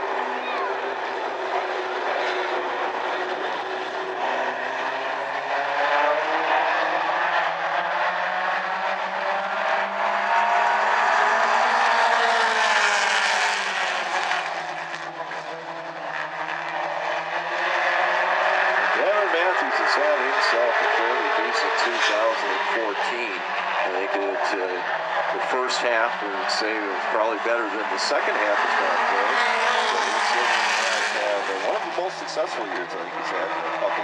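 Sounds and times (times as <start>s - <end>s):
race car engines passing: 0.0s - 34.0s.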